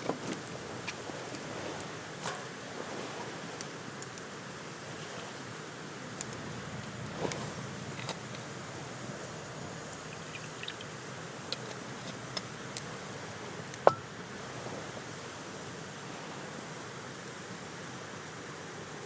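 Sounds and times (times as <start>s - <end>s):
campfire hissing and crackling: 0.0s - 19.0s.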